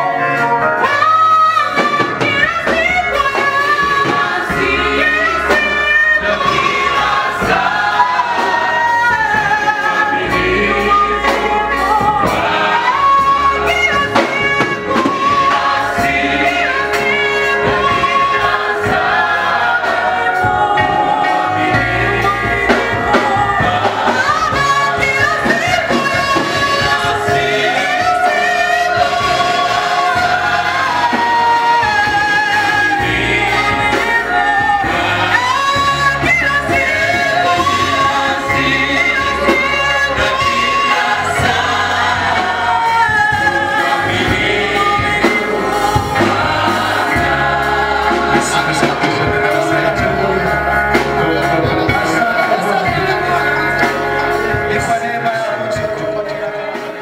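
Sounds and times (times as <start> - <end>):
gospel choir singing: 0.0 - 57.0
low bass notes: 0.0 - 57.0.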